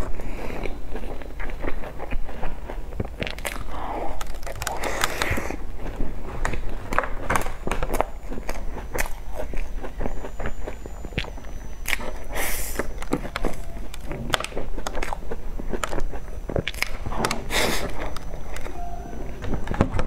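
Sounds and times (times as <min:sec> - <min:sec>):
wet chewing with lip-smacking: 0:00.0 - 0:18.8
soft squishing: 0:00.0 - 0:20.0.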